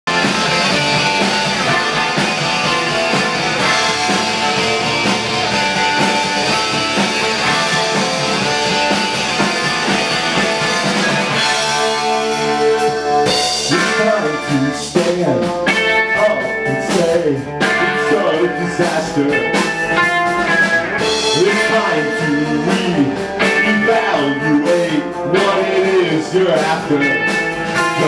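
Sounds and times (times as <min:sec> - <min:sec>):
drum kit: 0:00.0 - 0:28.0
electric guitars: 0:00.0 - 0:28.0.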